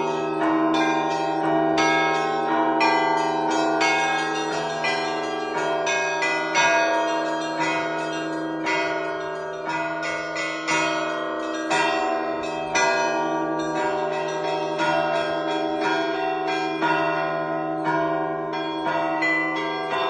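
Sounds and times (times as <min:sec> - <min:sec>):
large bells ringing hum: 0:00.0 - 0:20.0
small church bells struck quickly: 0:00.0 - 0:20.0.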